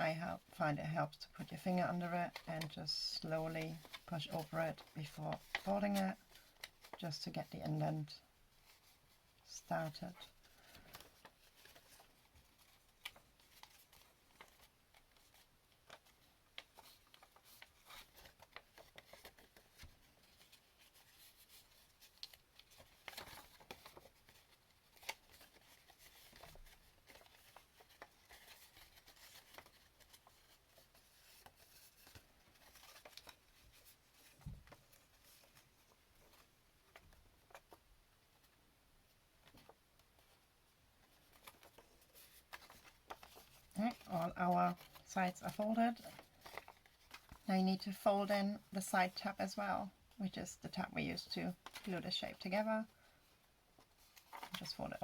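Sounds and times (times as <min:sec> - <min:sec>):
cardstock being folded: 0:01.4 - 0:38.6, 0:39.4 - 0:55.0.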